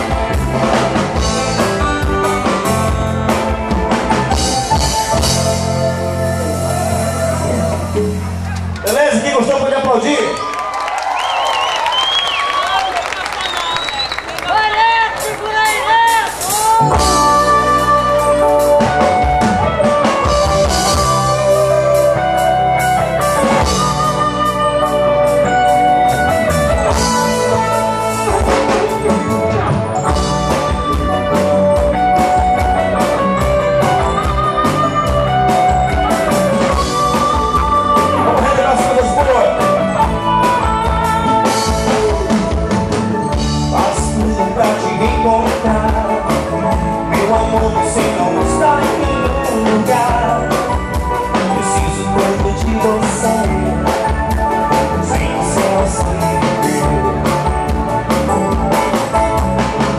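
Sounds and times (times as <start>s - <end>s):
electric guitar: 0.0s - 9.0s, 13.6s - 59.9s
lead melody with bending notes: 0.0s - 10.2s, 15.6s - 59.9s
steady bass: 0.0s - 10.2s, 16.4s - 59.9s
drum kit: 0.0s - 10.3s, 15.1s - 59.9s.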